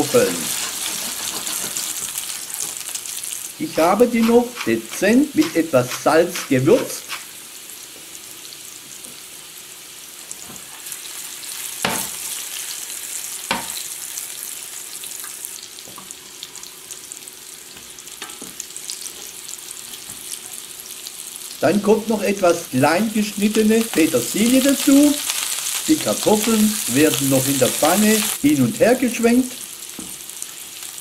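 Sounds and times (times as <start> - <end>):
potatoes sizzling in frying pan: 0.0 - 31.0.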